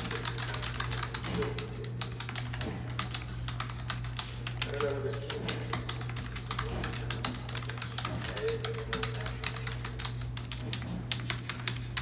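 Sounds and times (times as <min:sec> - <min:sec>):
fast typing on keyboard: 0:00.0 - 0:12.0
steady low hum: 0:00.0 - 0:12.0.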